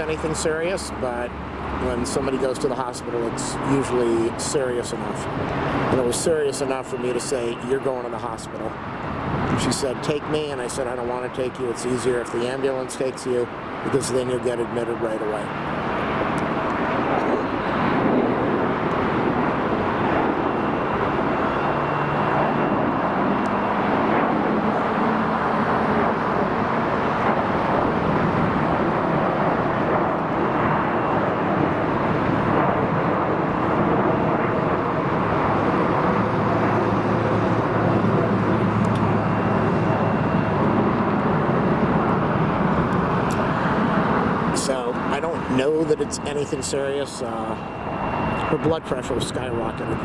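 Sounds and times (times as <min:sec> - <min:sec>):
jet airliner engines: 0:00.0 - 0:50.0.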